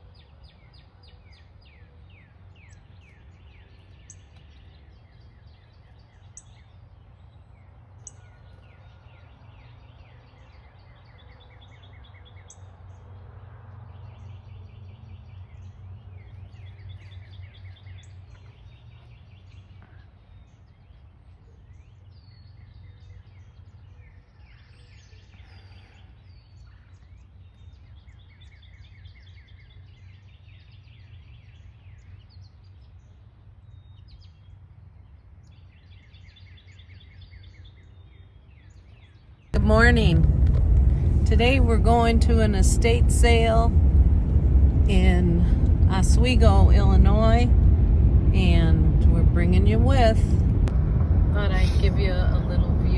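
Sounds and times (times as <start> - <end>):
songbirds chirping: 0.0 - 50.7
low background hum: 0.0 - 52.9.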